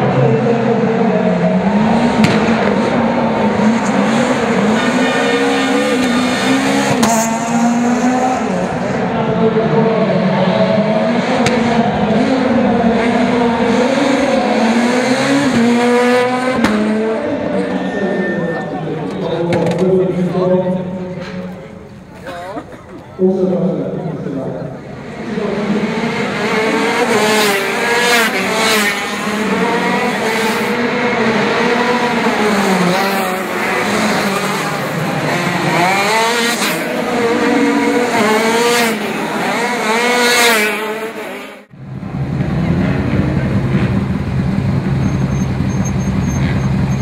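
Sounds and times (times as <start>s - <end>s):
kart engines racing past: 0.0s - 47.0s.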